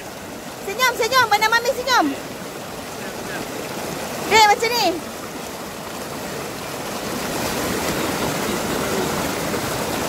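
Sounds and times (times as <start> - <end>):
river water rushing over boulders: 0.0 - 10.0.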